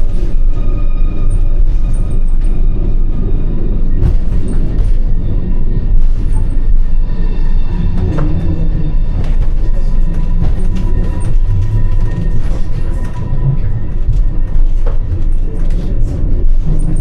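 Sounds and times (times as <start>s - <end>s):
railway car rumble: 0.0s - 17.0s.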